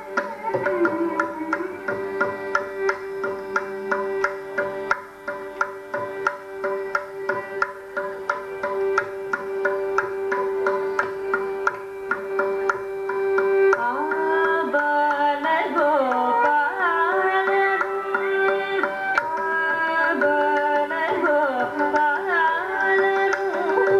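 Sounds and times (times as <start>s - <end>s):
drum rhythmic strokes: 0.0s - 23.9s.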